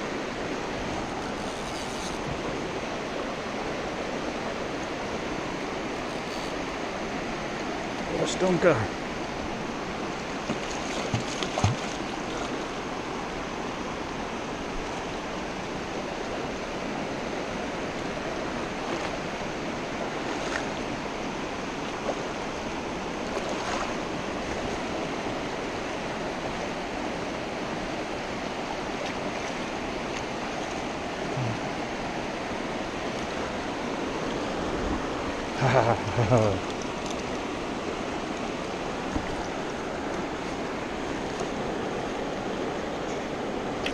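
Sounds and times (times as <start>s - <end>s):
stream rushing over rocks: 0.0s - 43.9s
water splashes: 0.0s - 43.9s.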